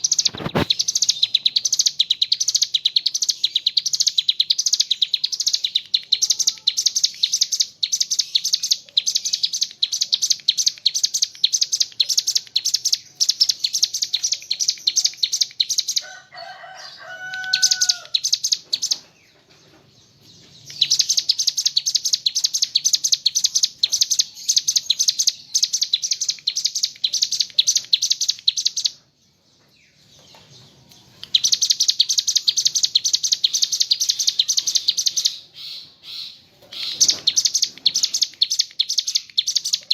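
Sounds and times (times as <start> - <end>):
bird chattering song: 0.0 - 16.1, 16.9 - 39.9.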